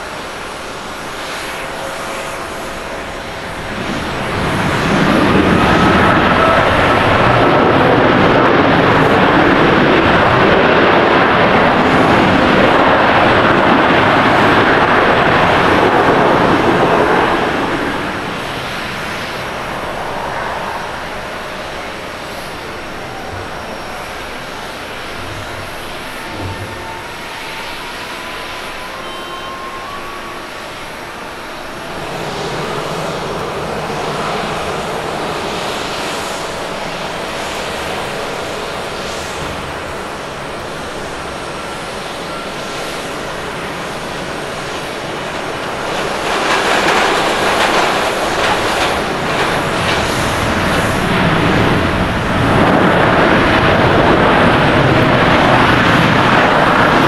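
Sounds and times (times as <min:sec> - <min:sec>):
jet engines rushing on landing: 0:00.0 - 0:57.0.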